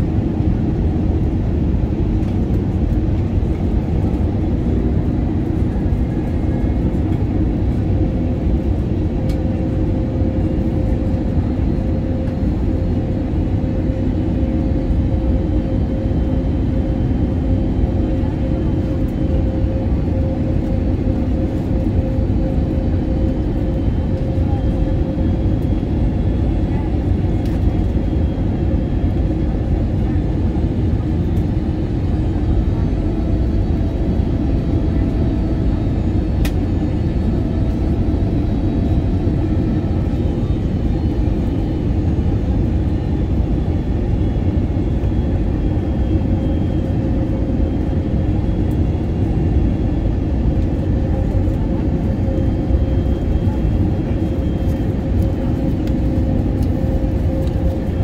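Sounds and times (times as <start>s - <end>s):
airplane cabin rumble: 0.0s - 58.0s
faint jet engine whine: 0.0s - 58.0s.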